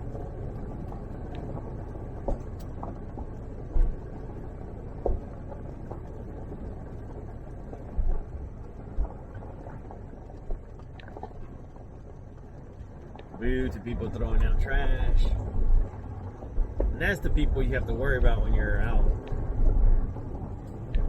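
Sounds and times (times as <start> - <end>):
vehicle rumbling on dirt road: 0.0 - 21.0.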